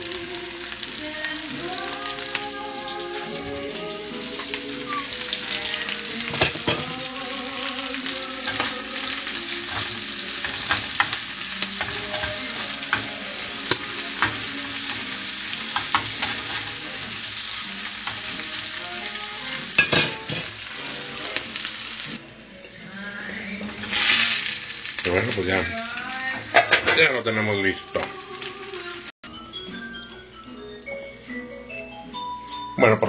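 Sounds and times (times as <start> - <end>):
sausage sizzling in frying pan: 0.0 - 22.2, 23.7 - 29.1.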